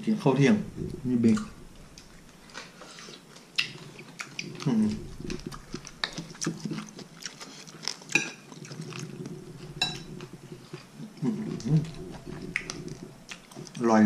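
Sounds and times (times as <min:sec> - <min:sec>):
chewing: 0:00.7 - 0:14.0.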